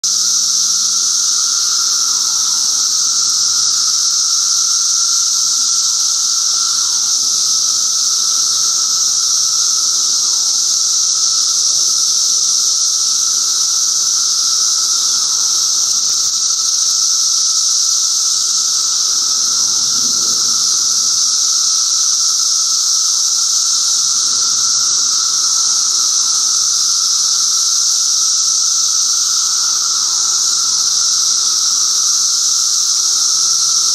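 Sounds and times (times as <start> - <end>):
cicadas droning: 0.0 - 33.9.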